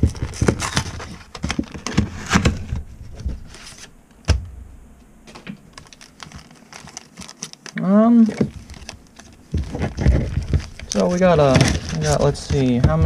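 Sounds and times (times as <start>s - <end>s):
plastic and foil packaging crackling: 0.0s - 3.9s, 5.4s - 13.0s.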